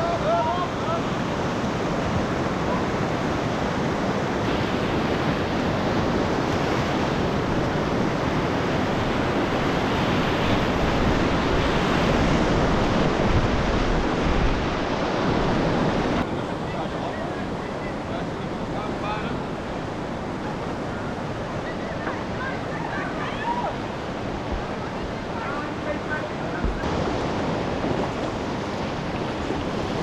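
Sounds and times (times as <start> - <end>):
rapids rushing: 0.0 - 30.0.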